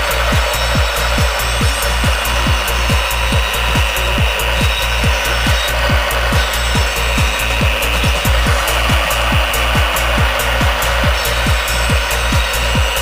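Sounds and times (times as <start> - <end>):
wet tile saw grinding tile: 0.0 - 13.0.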